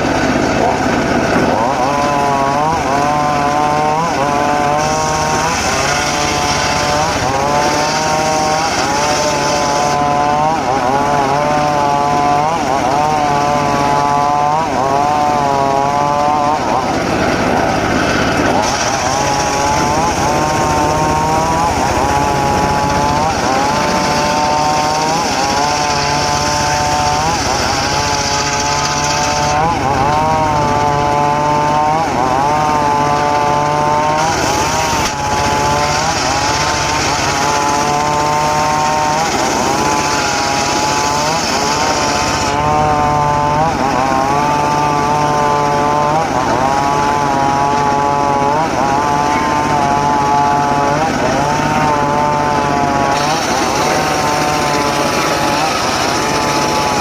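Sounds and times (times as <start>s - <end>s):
sawmill engine under load: 0.0s - 57.0s.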